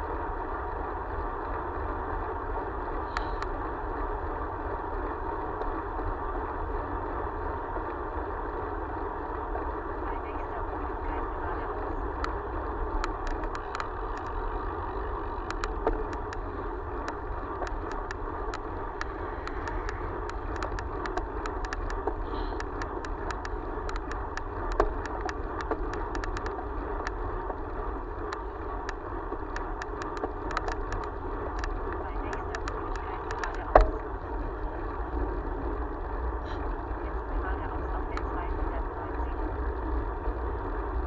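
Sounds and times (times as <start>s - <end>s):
road and wind rush: 0.0s - 41.0s
small irregular ticks: 2.2s - 8.0s, 9.0s - 41.0s.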